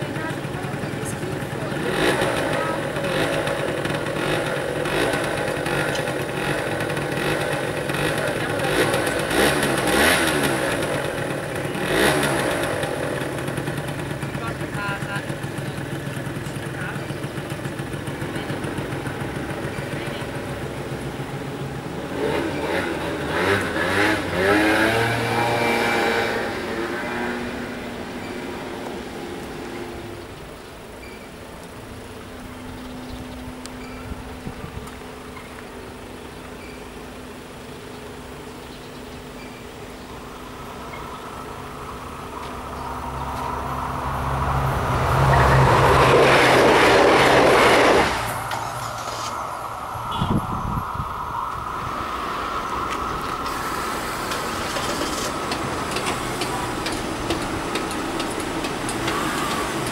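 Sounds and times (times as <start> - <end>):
motor scooter engine: 0.0 - 59.9
wheels rushing on rail: 0.0 - 59.9.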